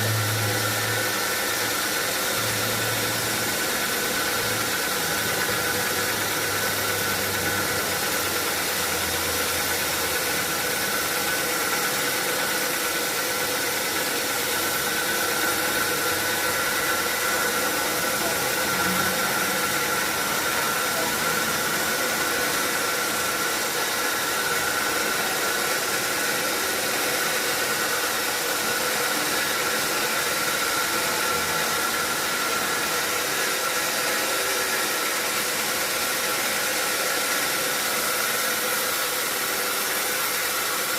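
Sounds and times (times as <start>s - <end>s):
high mechanical whine: 0.0s - 40.9s
sawmill machinery humming: 0.0s - 40.9s.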